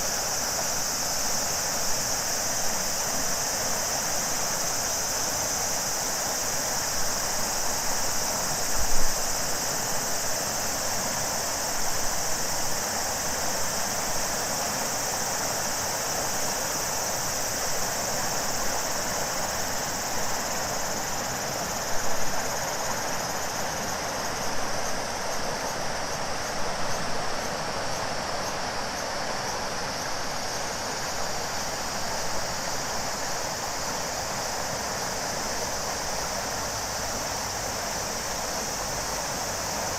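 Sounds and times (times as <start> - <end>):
cicadas chorus: 0.0 - 39.9
river rushing: 0.0 - 39.9.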